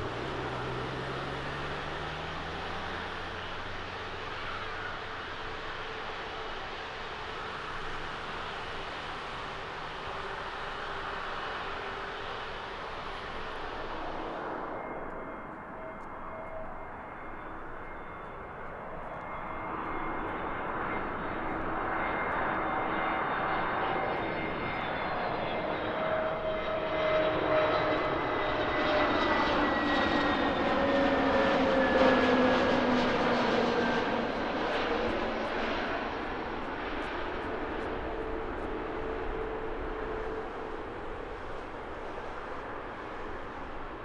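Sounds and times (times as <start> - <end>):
jet engines whining and rushing: 0.0 - 44.0.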